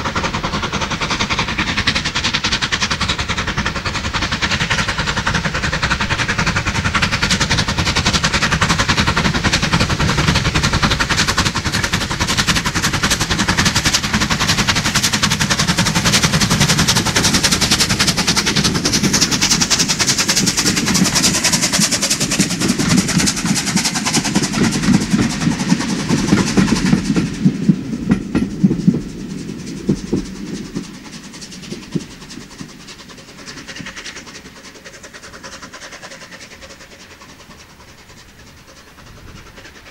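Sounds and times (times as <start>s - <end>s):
steam hissing: 0.0s - 39.9s
steam locomotive exhaust chuffs: 0.0s - 39.9s
train wheels clattering over rail joints: 0.0s - 39.9s.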